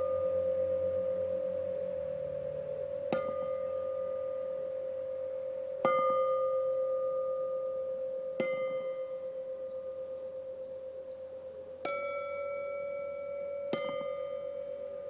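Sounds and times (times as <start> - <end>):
bells struck with a mallet: 0.0 - 15.0.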